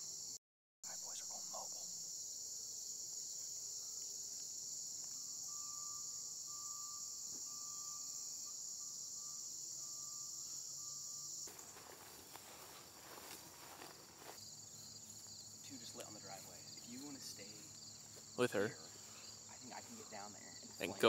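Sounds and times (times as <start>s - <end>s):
crickets and insects chirring: 0.0s - 21.0s.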